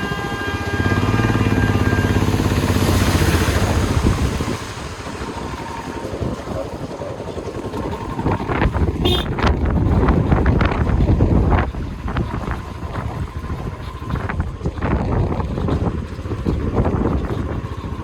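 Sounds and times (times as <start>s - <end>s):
vehicle driving low rumble: 0.0s - 18.0s
wind buffeting microphone: 0.0s - 18.0s.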